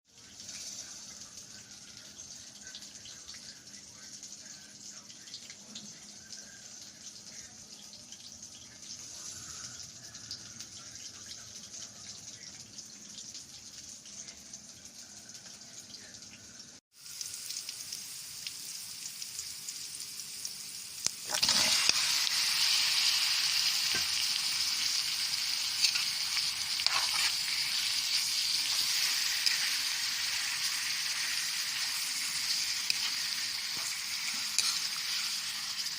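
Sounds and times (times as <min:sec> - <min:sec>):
food sizzling in hot oil: 0:00.1 - 0:35.9.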